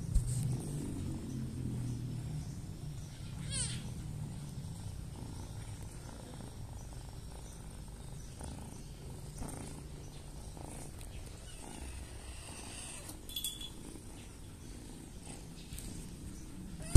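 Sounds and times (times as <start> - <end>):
kitten purring: 0.0 - 16.9.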